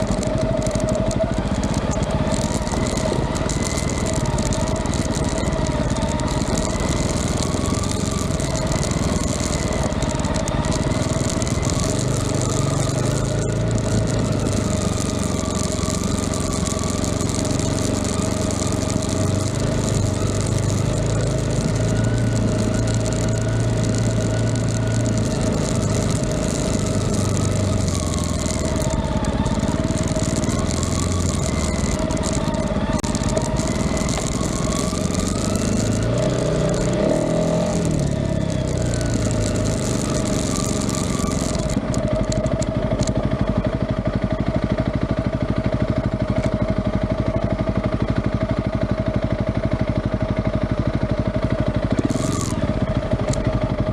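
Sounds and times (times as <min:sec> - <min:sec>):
engine humming: 0:00.0 - 0:49.2, 0:50.2 - 0:53.9.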